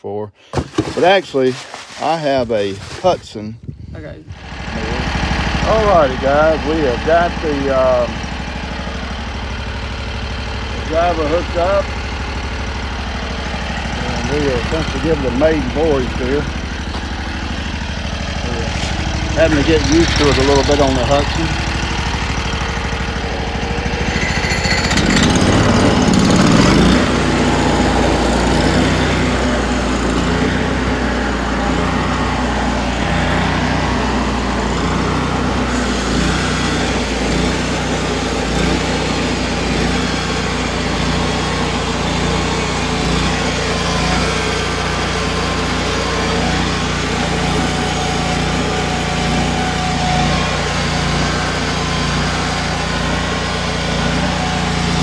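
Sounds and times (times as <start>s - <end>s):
small gasoline engine running: 0.5s - 3.3s, 4.2s - 55.0s.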